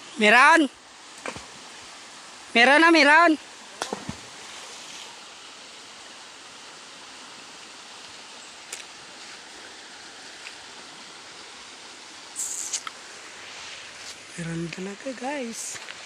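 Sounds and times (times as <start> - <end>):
river running over rocks: 0.0 - 16.0.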